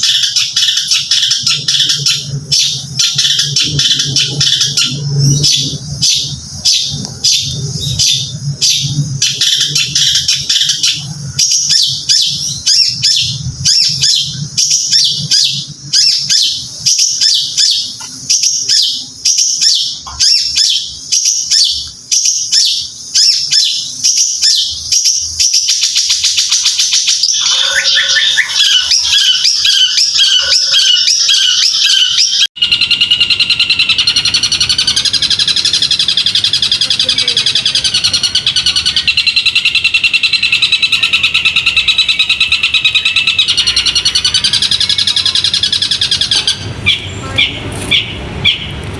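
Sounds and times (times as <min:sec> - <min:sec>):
songbird chirping and trilling: 0:00.0 - 0:48.9.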